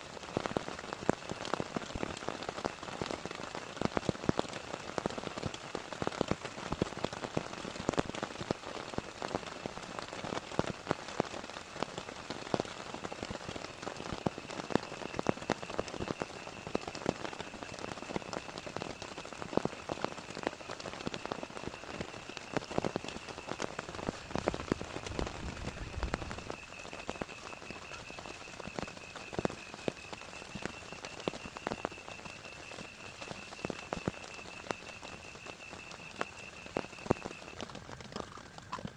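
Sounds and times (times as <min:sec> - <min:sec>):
heavy rain falling: 0:00.0 - 0:38.9
sharp raindrop hits: 0:00.2 - 0:38.9.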